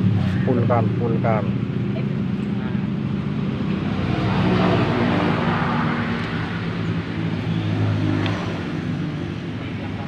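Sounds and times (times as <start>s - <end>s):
vehicle engines humming: 0.0s - 10.0s
vehicle passing by: 0.0s - 10.0s.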